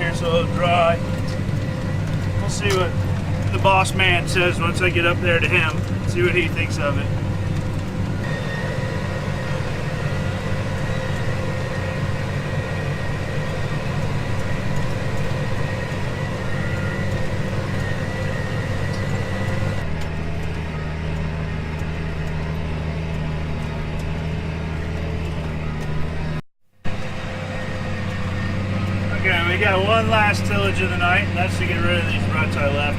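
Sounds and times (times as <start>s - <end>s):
thin steady whine: 0.0s - 32.9s
tractor diesel engine running: 0.0s - 32.9s.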